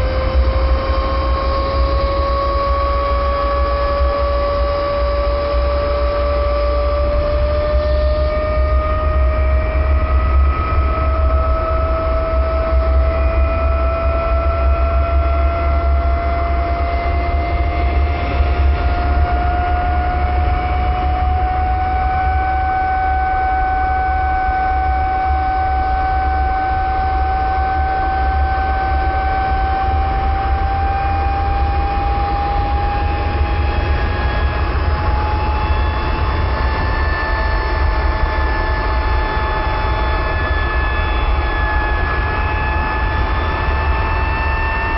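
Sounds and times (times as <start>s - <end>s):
deep rumble: 0.0s - 44.9s
fidget spinner whine: 0.0s - 44.9s.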